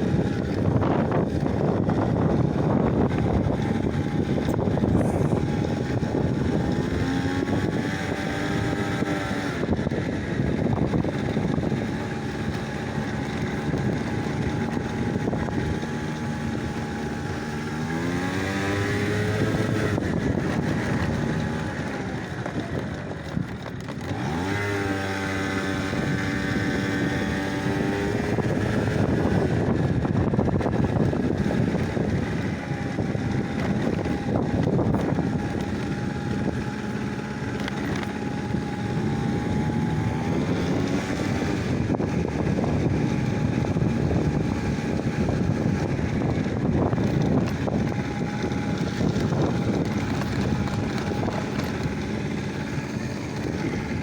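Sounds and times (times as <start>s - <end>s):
engine changing gear: 0.0s - 54.0s
wind noise: 0.0s - 54.0s.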